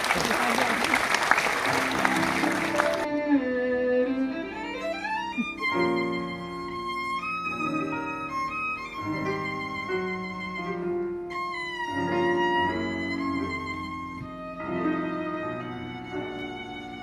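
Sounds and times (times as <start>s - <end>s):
solo violin playing slowly: 1.9s - 17.0s.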